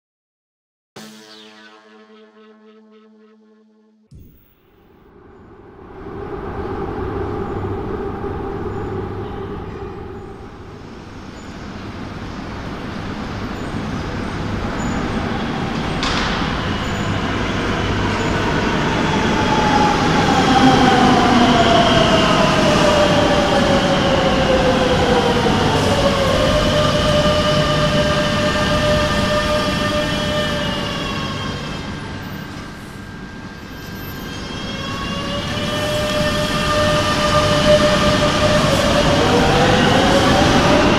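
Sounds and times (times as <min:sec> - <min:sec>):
train humming tones: 0:01.0 - 0:40.9
electric train motor whine: 0:05.2 - 0:40.9.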